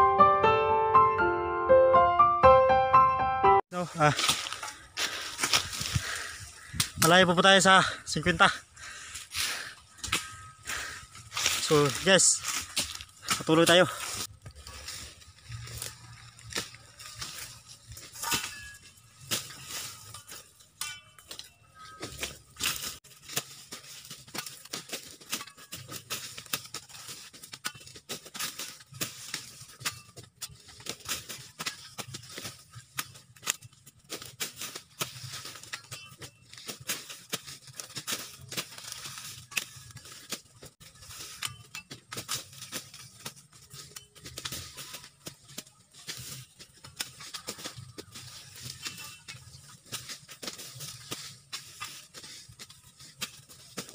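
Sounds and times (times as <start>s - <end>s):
dry leaves crackling: 3.7s - 53.9s
machete chopping cane: 4.1s - 7.1s, 9.4s - 53.9s.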